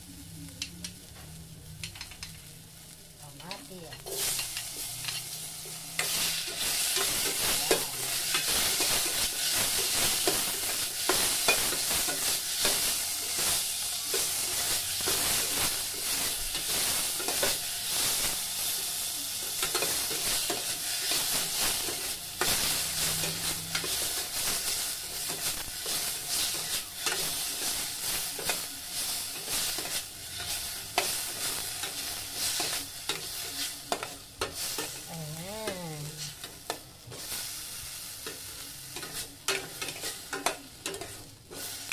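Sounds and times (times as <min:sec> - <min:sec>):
onion and tomato sizzling in oil: 0:00.0 - 0:41.9.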